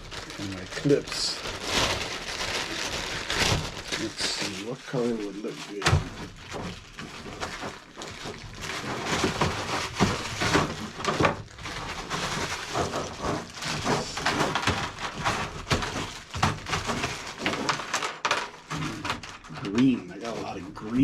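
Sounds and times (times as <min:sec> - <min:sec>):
hands rummaging through clips: 0:00.0 - 0:21.0.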